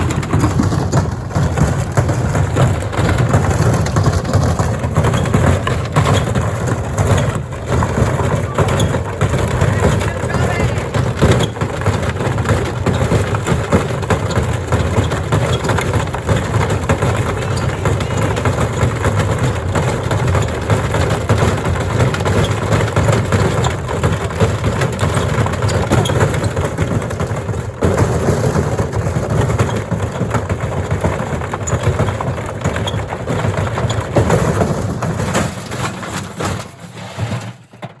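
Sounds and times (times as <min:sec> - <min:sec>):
bricks clattering in washing machine: 0:00.0 - 0:38.0.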